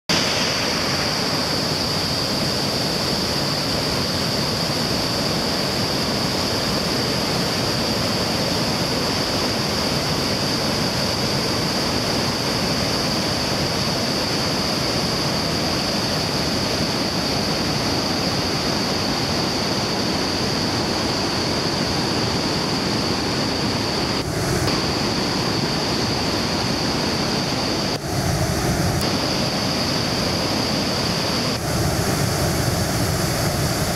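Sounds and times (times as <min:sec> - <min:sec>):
rush of falling water: 0:00.1 - 0:33.9
steady high hiss: 0:00.1 - 0:33.9.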